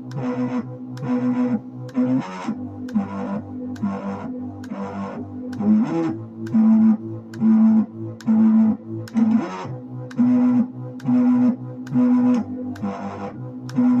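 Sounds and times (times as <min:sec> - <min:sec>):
pulsing low drone note: 0:00.0 - 0:14.0.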